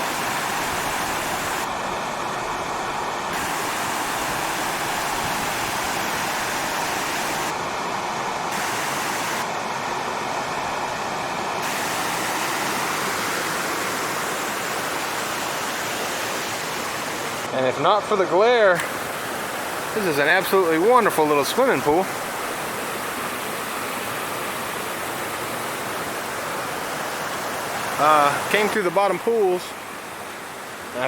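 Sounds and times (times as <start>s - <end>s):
waterfall rushing: 0.0s - 17.9s, 18.6s - 31.0s.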